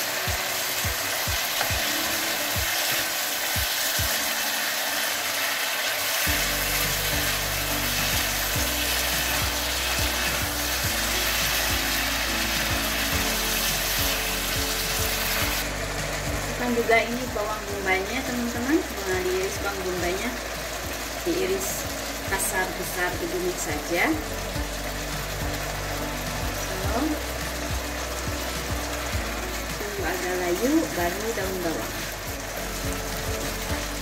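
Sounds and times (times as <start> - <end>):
chicken sizzling in a wok: 0.0 - 34.0.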